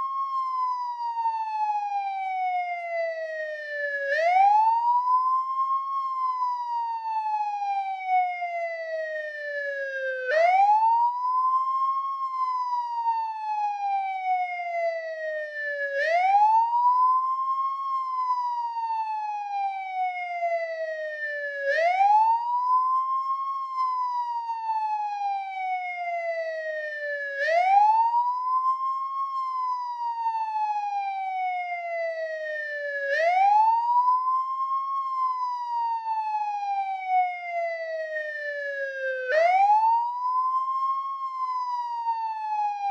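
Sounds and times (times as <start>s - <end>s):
police siren wailing: 0.0s - 42.9s.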